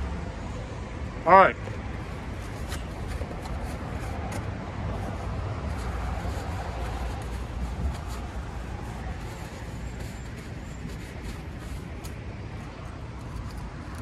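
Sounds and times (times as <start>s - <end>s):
outdoor traffic rumble: 0.0s - 14.0s
wind: 0.0s - 14.0s.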